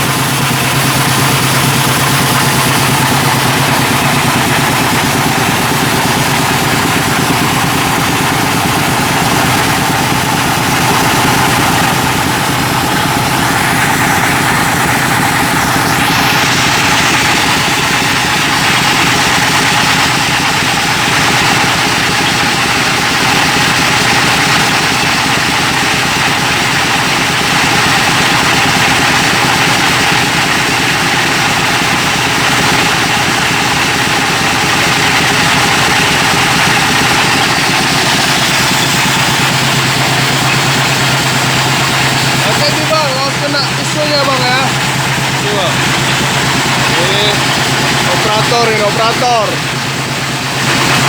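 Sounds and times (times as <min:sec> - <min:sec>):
grinding machine engine running: 0:00.0 - 0:51.0.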